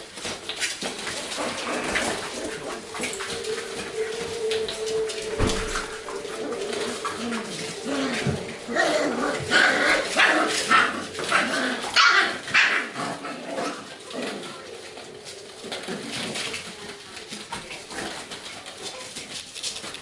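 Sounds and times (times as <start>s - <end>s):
puppies yapping and barking: 0.0s - 19.9s.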